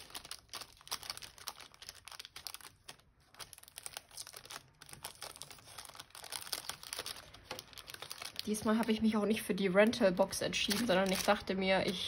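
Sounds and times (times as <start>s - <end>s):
tissue paper crinkling and tearing: 0.0s - 9.0s, 10.4s - 12.0s.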